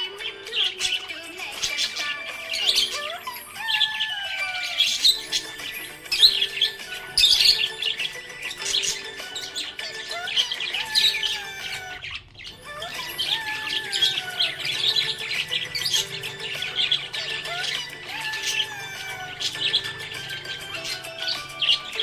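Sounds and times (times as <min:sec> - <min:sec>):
budgerigars chirping and chattering: 0:00.0 - 0:22.0.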